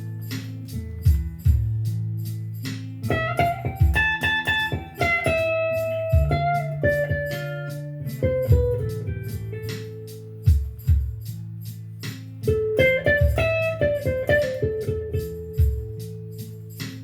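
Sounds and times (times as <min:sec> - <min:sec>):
blues guitar: 0:00.0 - 0:17.0
steady beat: 0:00.0 - 0:17.0.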